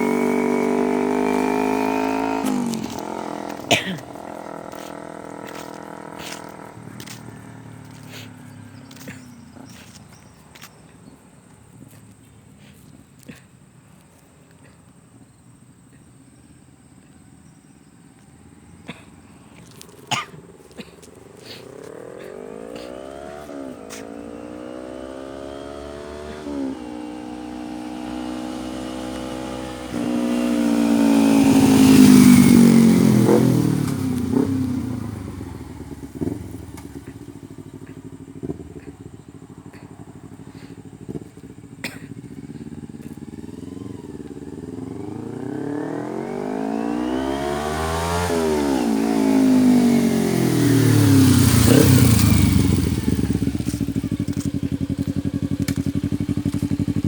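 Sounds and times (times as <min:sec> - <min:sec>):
motorcycle accelerating through gears: 0:00.0 - 0:13.0, 0:18.6 - 0:57.0.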